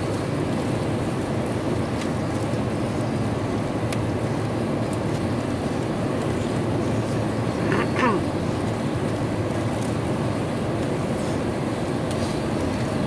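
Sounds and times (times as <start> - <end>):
airliner cabin engine and airflow noise: 0.0 - 13.0.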